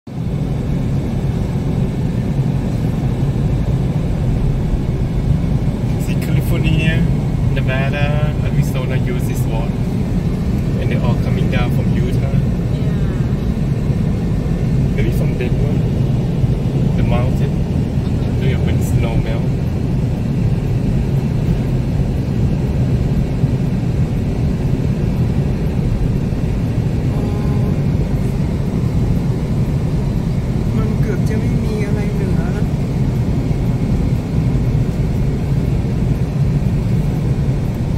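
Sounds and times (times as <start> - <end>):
car cabin road rumble: 0.1 - 37.9.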